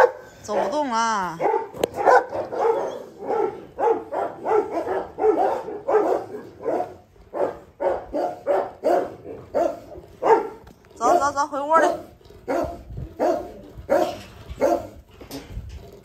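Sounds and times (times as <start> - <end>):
dog barking: 0.0 - 15.0.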